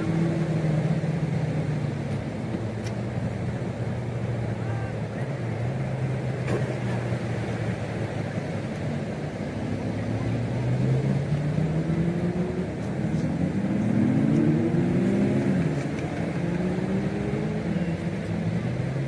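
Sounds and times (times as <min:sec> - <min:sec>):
surf: 0:00.0 - 0:19.0.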